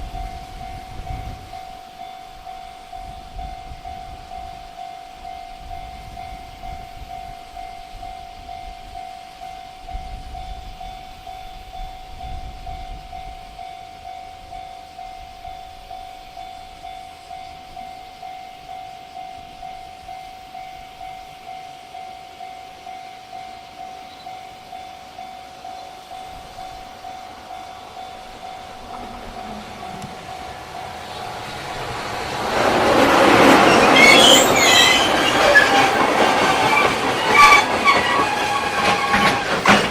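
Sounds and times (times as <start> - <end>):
freight train rumbling past: 0.0 - 39.9
level-crossing warning bell: 0.0 - 39.9.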